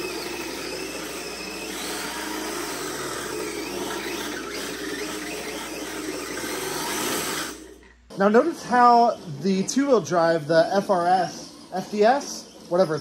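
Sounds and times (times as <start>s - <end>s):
electric motor whirring: 0.0s - 13.0s.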